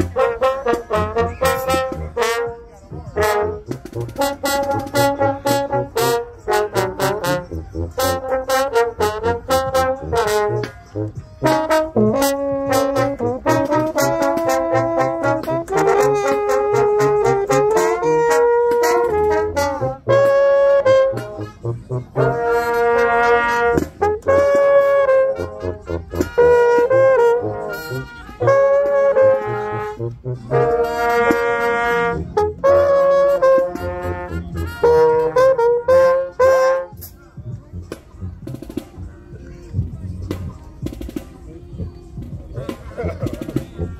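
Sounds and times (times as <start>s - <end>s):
brass group playing: 0.0s - 39.1s, 42.2s - 43.9s
sousaphone bass line: 0.0s - 39.1s
mellophone: 0.0s - 43.9s.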